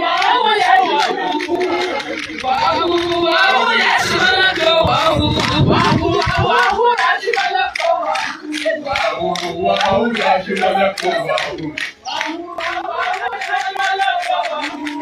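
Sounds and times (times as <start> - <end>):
group singing and chanting: 0.0 - 15.0
steady beat of sharp strokes: 0.0 - 15.0.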